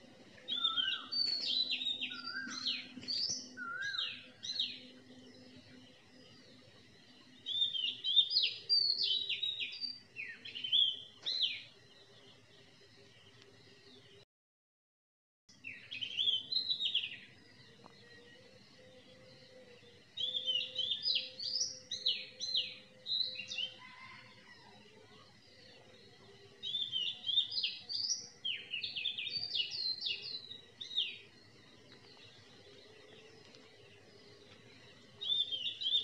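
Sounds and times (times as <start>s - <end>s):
songbird chirping: 0.0s - 14.2s, 15.5s - 36.0s.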